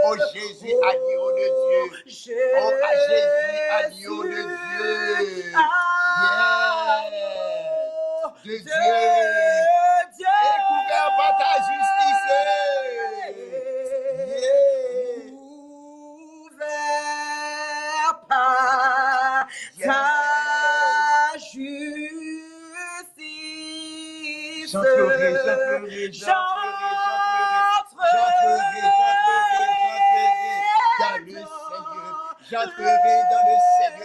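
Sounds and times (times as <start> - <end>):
man and woman singing: 0.0 - 34.0.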